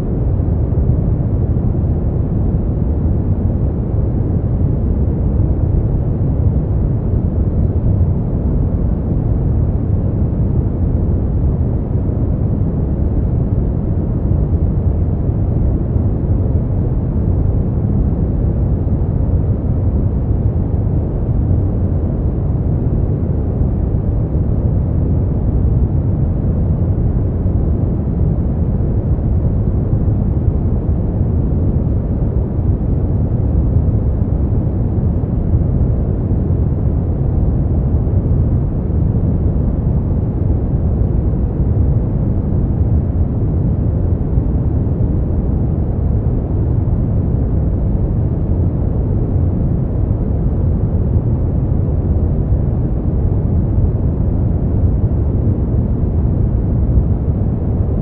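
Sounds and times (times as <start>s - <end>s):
deep rumbling noise: 0.0s - 58.0s.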